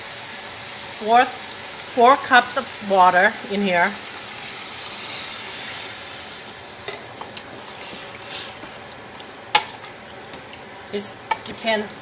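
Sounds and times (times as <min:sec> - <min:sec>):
water sizzling in hot pot: 0:00.0 - 0:12.0.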